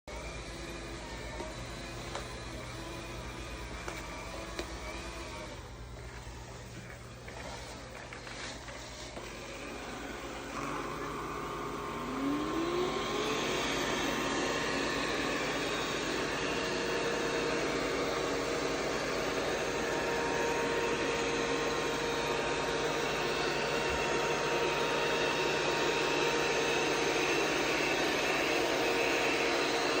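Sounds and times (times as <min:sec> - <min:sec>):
robot vacuum cleaner whirring: 0:00.1 - 0:30.0.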